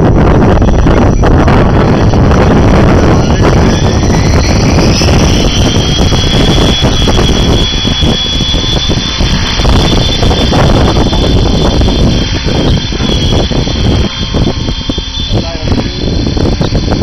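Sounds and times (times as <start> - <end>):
rc helicopter motor whine: 0.0 - 17.0
rotor wash rushing: 0.0 - 17.0.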